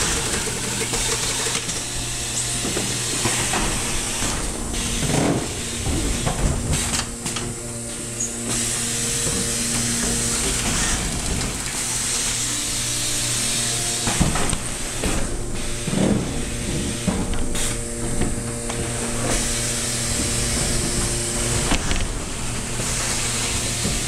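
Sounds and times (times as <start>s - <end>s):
machine hum with air hiss: 0.0s - 24.0s
pneumatic air blasts: 0.0s - 24.0s.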